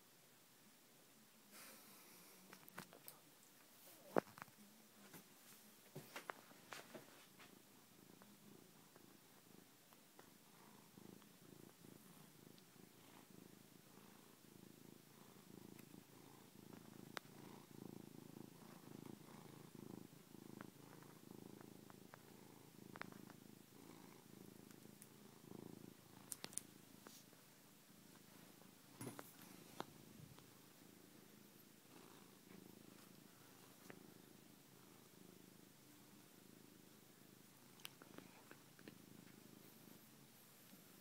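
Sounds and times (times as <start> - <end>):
cat purring: 0.6 - 41.0.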